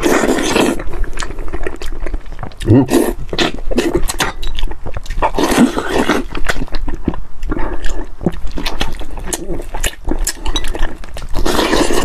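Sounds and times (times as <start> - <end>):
wet smacking and chewing: 0.0 - 12.0.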